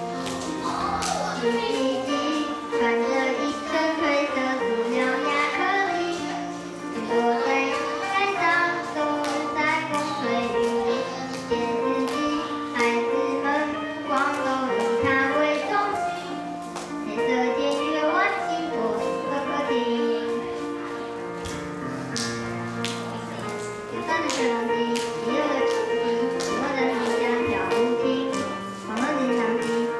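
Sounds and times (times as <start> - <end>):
instrumental backing: 0.0 - 29.9
child singing: 0.2 - 21.2, 23.9 - 29.9.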